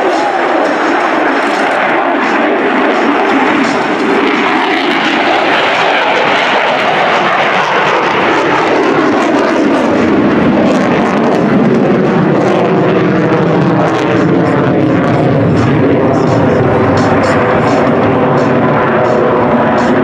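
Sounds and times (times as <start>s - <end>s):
jet engine roaring overhead: 0.0s - 20.0s.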